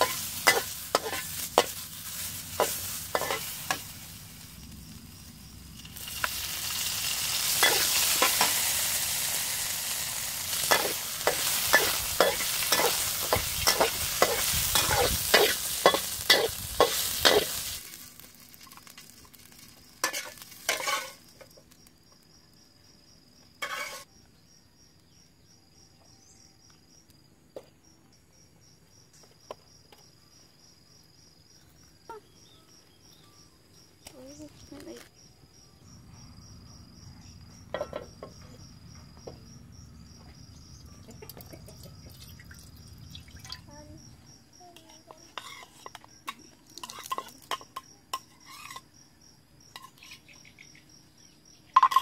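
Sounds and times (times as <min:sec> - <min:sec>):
aromatics sizzling in a wok: 0:00.0 - 0:26.8, 0:28.6 - 0:52.0
faint insect chirring: 0:00.0 - 0:52.0.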